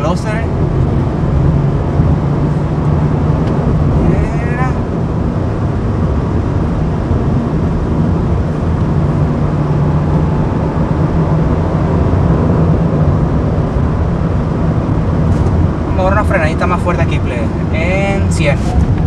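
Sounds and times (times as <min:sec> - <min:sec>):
low engine drone: 0:00.0 - 0:19.0
tyre and road noise: 0:00.0 - 0:19.0.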